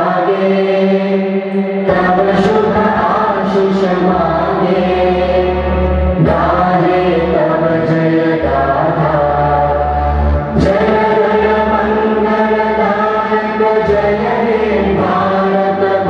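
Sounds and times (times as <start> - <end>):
choir-like chanting voices: 0.0 - 16.0
deep bass note: 1.5 - 16.0.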